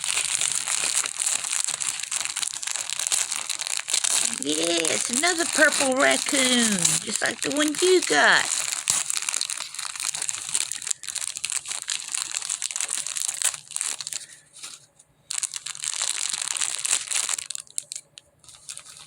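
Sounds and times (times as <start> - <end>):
gift wrapping crinkling: 0.0 - 19.0.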